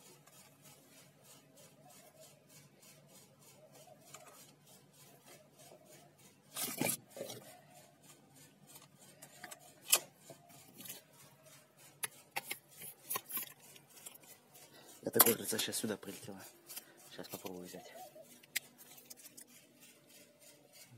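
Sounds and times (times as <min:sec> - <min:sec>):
rubbing handling noise: 0:00.0 - 0:20.9.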